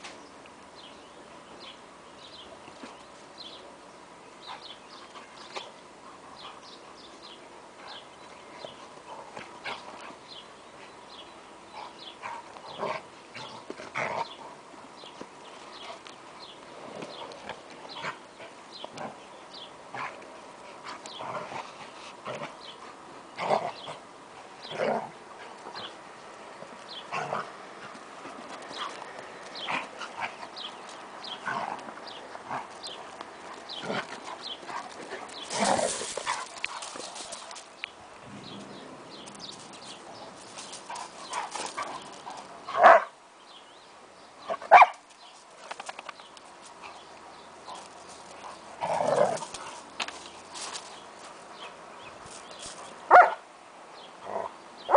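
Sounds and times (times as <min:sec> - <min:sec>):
dogs play-fighting: 0:02.4 - 0:03.4, 0:04.3 - 0:43.1, 0:44.5 - 0:53.4.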